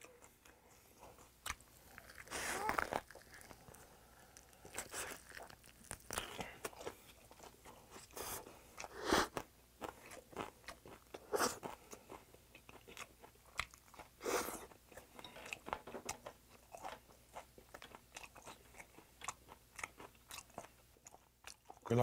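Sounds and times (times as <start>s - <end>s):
person chewing with wet crunching: 0.0s - 22.0s.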